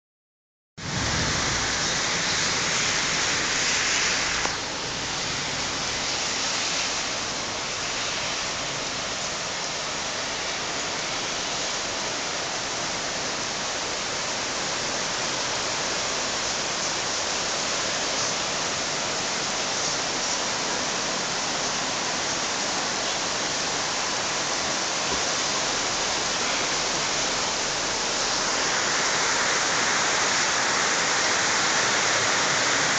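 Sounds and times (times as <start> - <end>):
heavy rain pouring: 0.8 - 32.9.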